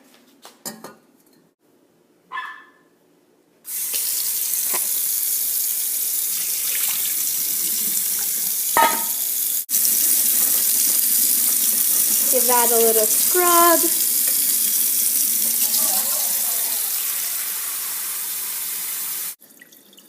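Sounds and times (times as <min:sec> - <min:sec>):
tap water running into sink: 0:03.7 - 0:20.0.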